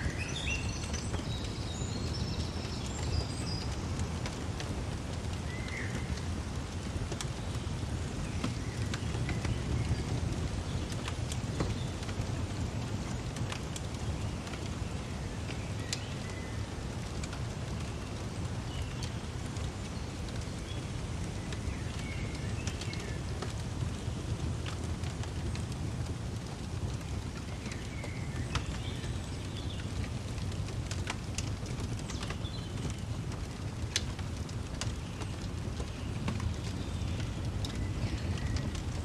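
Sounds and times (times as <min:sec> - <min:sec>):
low fire rumble: 0:00.0 - 0:39.0
fireplace crackling: 0:00.2 - 0:39.0.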